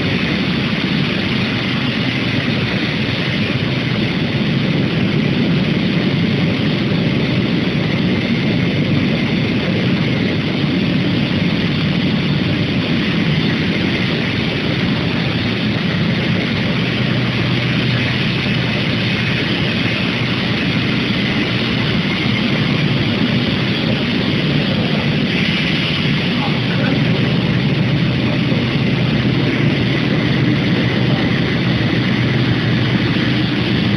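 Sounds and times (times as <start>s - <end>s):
steady industrial hum: 0.0s - 33.9s.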